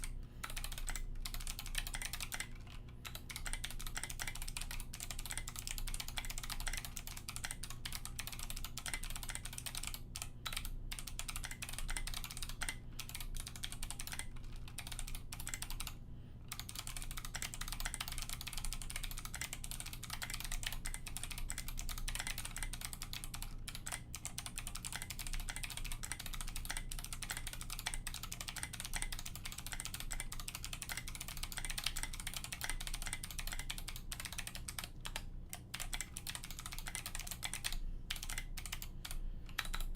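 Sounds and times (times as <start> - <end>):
mechanical keyboard typing clicks: 0.0 - 15.9, 16.5 - 39.9.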